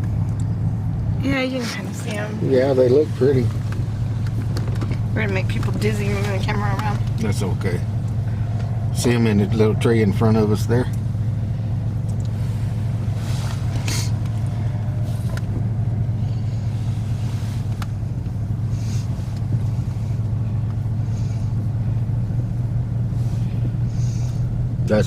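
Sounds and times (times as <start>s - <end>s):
faint rustles: 0.0s - 24.8s
truck rumble inside cab: 0.0s - 25.0s.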